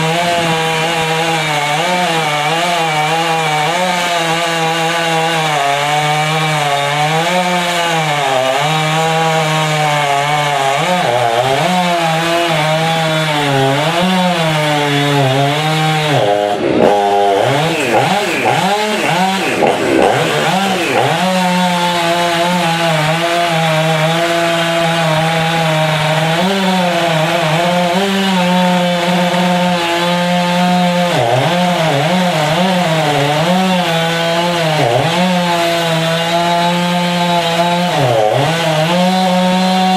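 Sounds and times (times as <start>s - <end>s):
chainsaw cutting wood: 0.0s - 39.9s
chainsaw engine revving: 0.0s - 39.9s.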